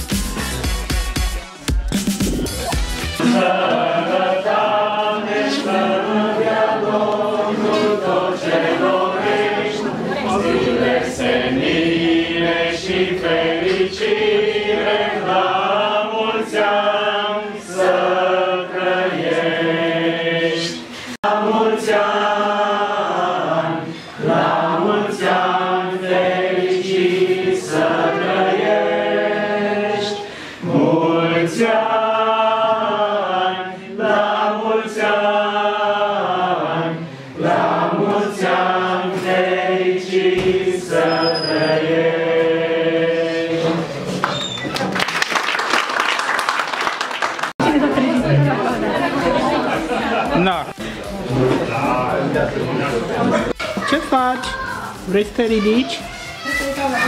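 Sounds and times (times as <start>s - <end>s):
group singing a hymn: 3.2s - 44.2s, 47.6s - 53.6s.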